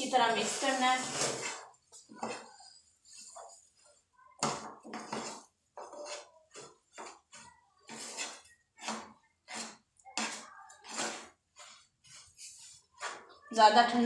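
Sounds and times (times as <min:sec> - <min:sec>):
plastic spatula scraping metal pan: 0:00.0 - 0:14.0.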